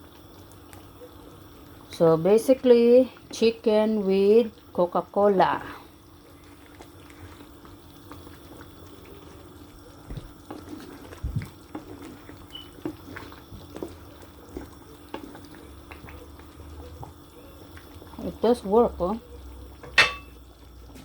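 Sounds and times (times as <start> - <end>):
sauce bubbling in a pan: 0.0 - 21.0.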